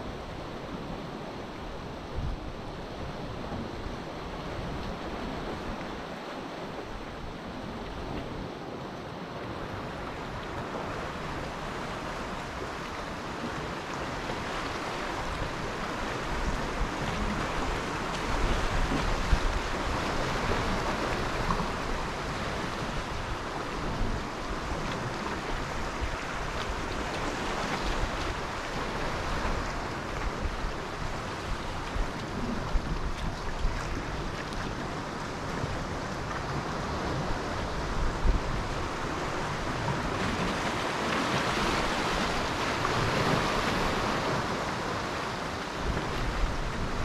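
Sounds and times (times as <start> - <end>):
waves washing against shore: 0.0 - 47.0.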